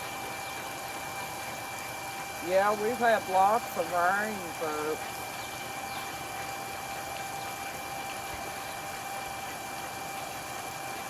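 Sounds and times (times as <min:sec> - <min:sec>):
electric water pump whining: 0:00.0 - 0:11.0.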